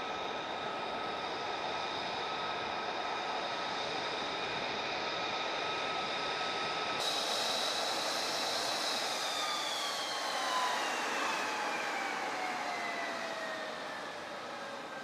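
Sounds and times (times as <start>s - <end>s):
jet engine whine spooling down: 0.0s - 15.0s.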